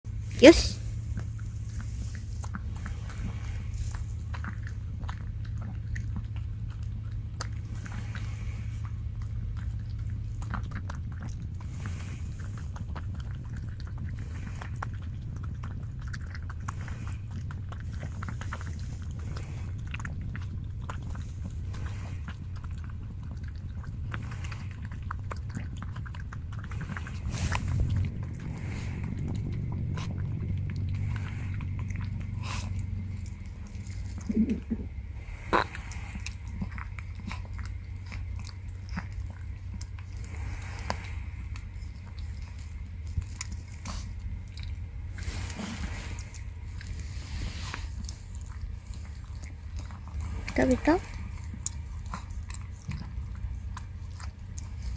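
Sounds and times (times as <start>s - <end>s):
dog chewing food: 0.1s - 54.9s
steady low hum: 0.1s - 54.9s.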